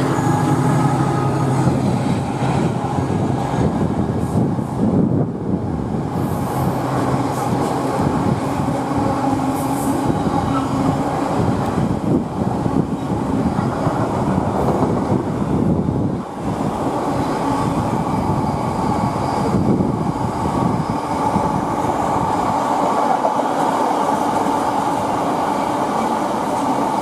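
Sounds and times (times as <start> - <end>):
diesel locomotive passing: 0.0 - 27.0
freight train wheels on rails: 0.0 - 27.0.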